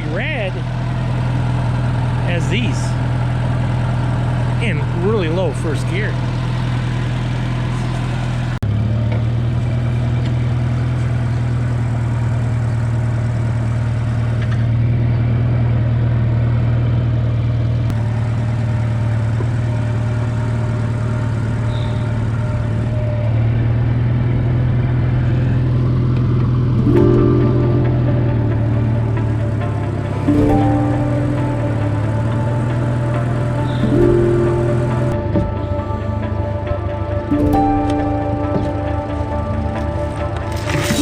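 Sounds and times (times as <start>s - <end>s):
tractor engine humming: 0.0s - 41.0s.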